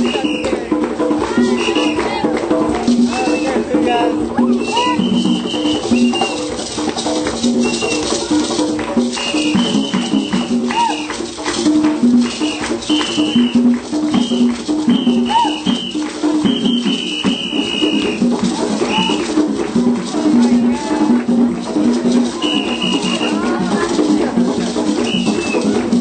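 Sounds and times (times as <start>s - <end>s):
shaker rhythm: 0.0s - 26.0s.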